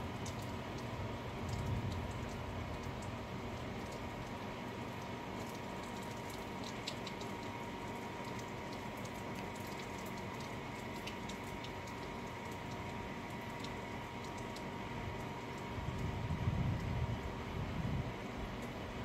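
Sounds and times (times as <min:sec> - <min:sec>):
raindrops tapping close by: 0:00.0 - 0:19.0
steady rain falling: 0:00.0 - 0:19.0.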